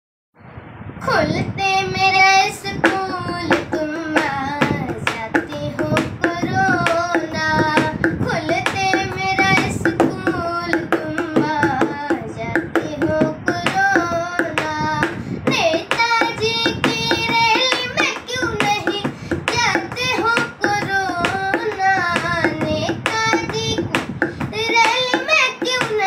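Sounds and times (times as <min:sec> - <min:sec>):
boy singing: 0:01.0 - 0:26.0
tapping beat: 0:02.7 - 0:26.0.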